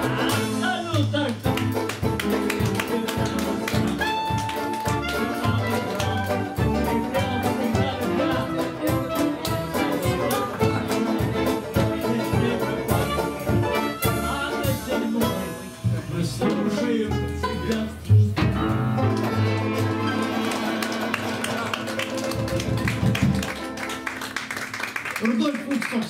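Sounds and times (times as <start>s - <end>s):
upright double bass: 0.0s - 24.8s
live band with rhythmic beat: 0.0s - 25.4s.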